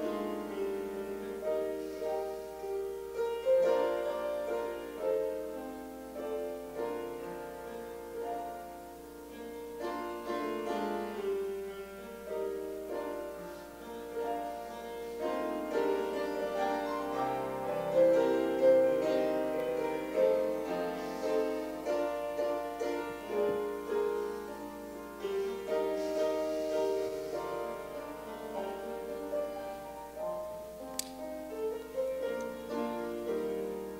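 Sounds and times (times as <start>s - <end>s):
piano playing a hymn: 0.0s - 33.9s.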